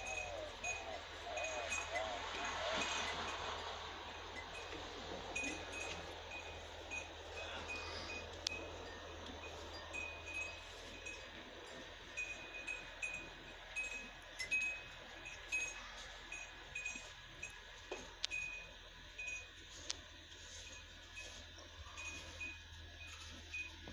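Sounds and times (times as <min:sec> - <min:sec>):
metal wind chime tinkling: 0:00.0 - 0:23.9.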